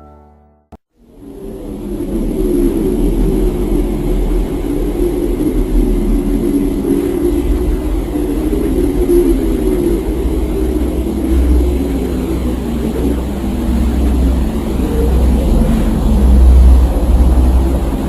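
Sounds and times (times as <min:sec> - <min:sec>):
loud low rumbling: 0:01.0 - 0:18.0.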